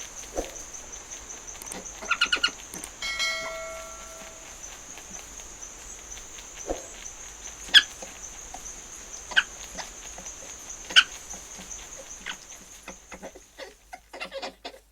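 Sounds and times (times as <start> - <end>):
steady high hiss: 0.0 - 14.1.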